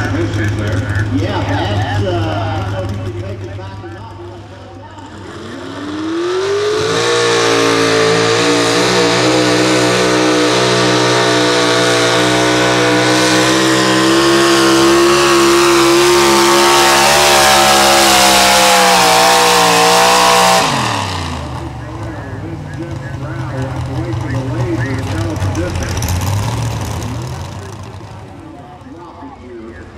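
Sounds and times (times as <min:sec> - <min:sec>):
truck engine at high revs: 0:00.0 - 0:29.9.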